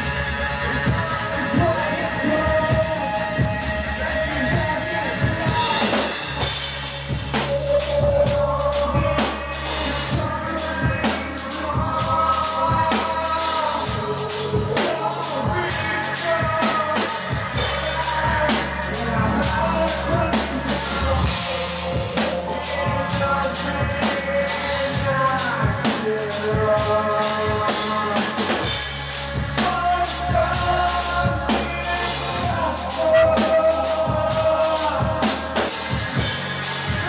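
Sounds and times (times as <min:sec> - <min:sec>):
drum kit beat: 0:00.0 - 0:37.0.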